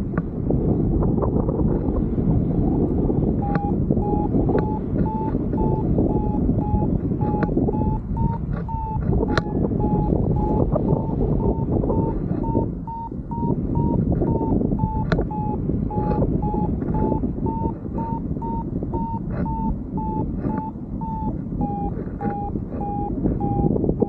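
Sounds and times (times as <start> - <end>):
wind rushing across microphone: 0.0 - 24.0
variometer short beeps: 3.4 - 24.0.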